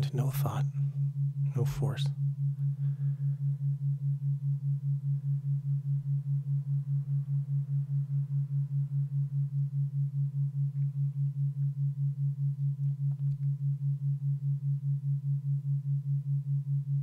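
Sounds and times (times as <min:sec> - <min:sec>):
pulsing low pure tone: 0:00.0 - 0:17.0.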